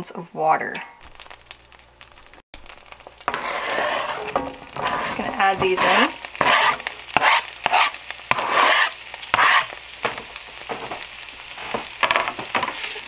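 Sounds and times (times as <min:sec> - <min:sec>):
onions sizzling in a pan: 0:01.0 - 0:13.0.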